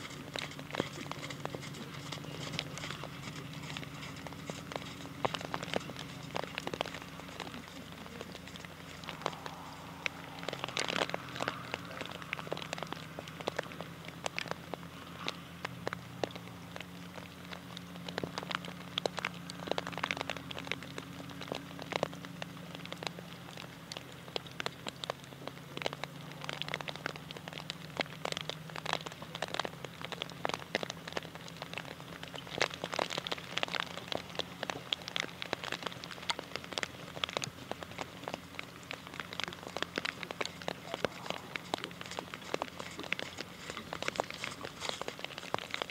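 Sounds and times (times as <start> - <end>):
low steady hum: 0.0 - 45.9
rain pattering: 0.0 - 45.9.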